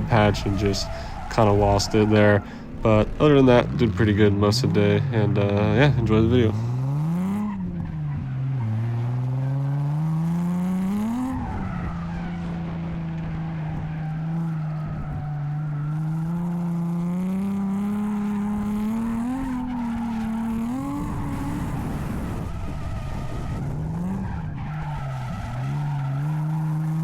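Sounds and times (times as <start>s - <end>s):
car engine revving: 0.0s - 27.0s
tyres skidding: 0.0s - 27.0s.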